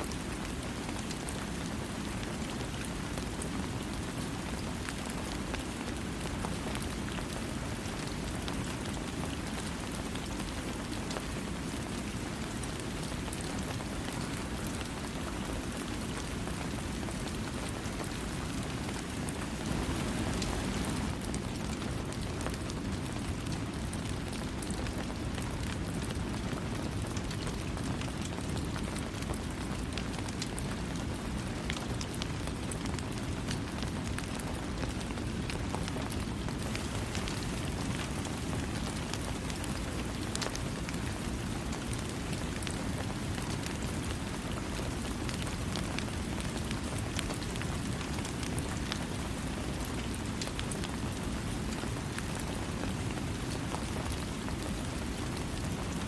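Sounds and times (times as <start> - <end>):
raindrops pattering: 0.0 - 56.0.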